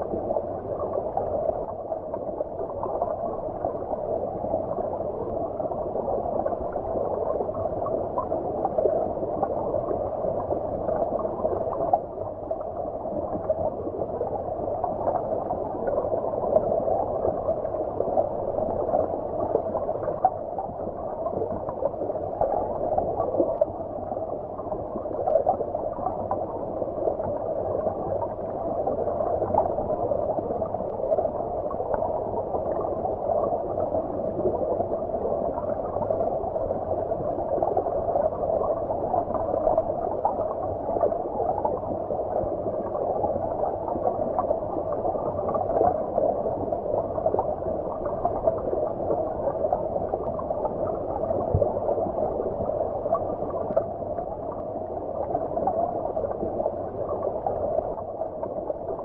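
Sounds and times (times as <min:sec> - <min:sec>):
muffled underwater stream rush: 0:00.0 - 0:59.0.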